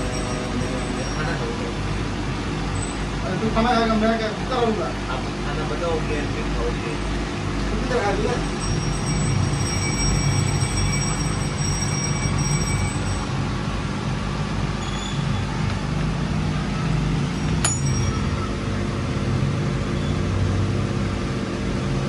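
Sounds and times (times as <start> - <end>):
low mechanical rumble: 0.0 - 22.0.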